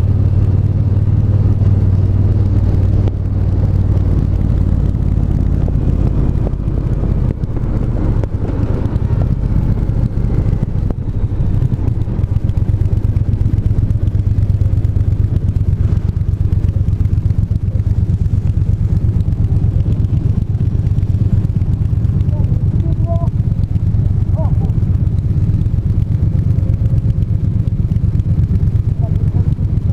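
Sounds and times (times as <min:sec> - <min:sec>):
motorcycle engine running steadily: 0:00.0 - 0:29.9.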